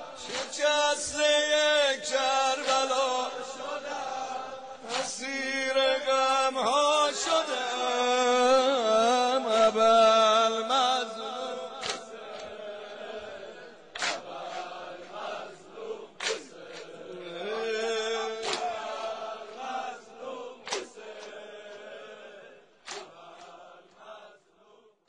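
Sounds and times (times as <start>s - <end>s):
mournful wordless chanting: 0.0s - 25.0s.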